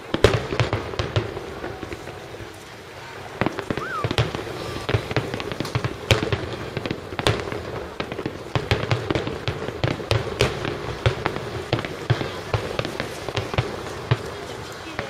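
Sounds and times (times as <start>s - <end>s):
firework shells bursting: 0.0s - 15.0s.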